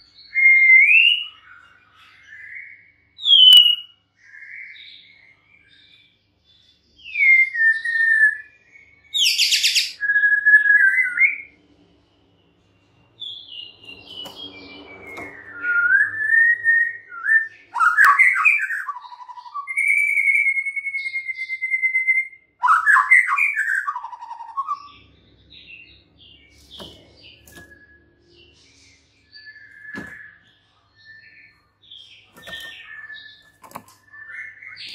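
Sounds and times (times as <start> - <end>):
songbird singing clear whistles: 0.0 - 5.9, 7.0 - 11.6, 13.2 - 25.1, 26.5 - 34.9.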